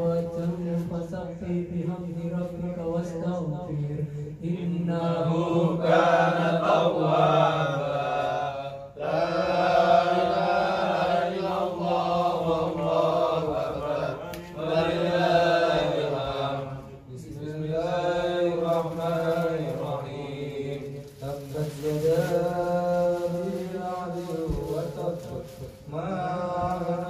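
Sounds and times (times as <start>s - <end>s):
man chanting through a microphone: 0.0s - 27.0s.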